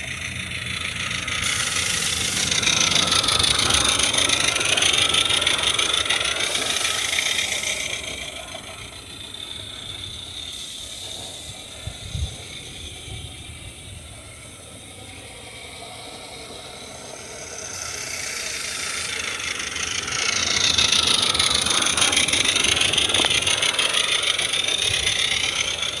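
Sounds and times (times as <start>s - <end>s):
steam locomotive exhaust beats: 0.0s - 26.0s
train rattling on track: 0.0s - 26.0s.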